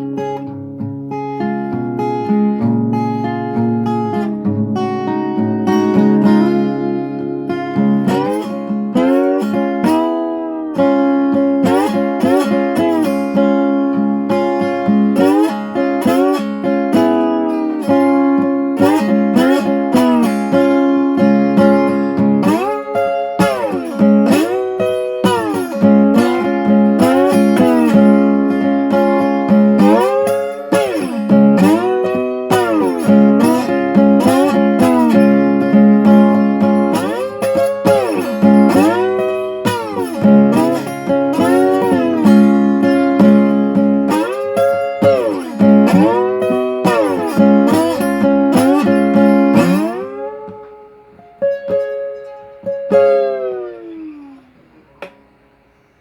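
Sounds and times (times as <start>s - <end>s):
slide guitar blues: 0.0s - 56.0s.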